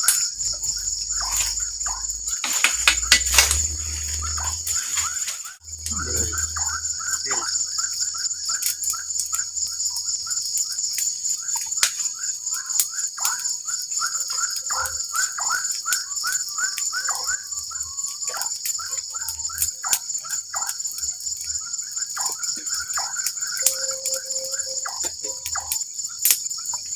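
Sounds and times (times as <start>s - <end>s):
insects droning: 0.0s - 26.9s
repeated chirping calls: 0.0s - 26.9s.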